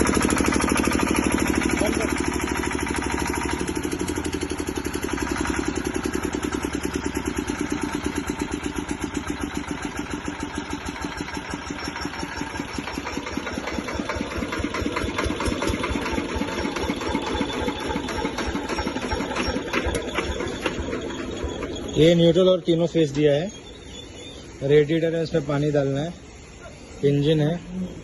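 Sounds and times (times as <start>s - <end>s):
diesel generator engine chugging: 0.0s - 28.0s.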